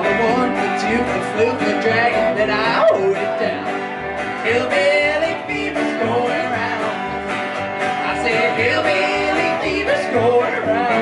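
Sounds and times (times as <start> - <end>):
acoustic guitar: 0.0 - 11.0
double bass: 0.0 - 11.0
electric guitar: 0.0 - 11.0
man singing: 0.0 - 11.0.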